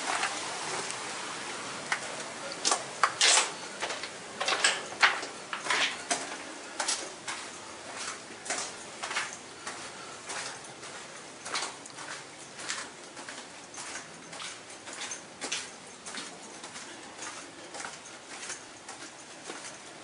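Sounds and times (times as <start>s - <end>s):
footsteps on gravel: 2.0s - 20.0s.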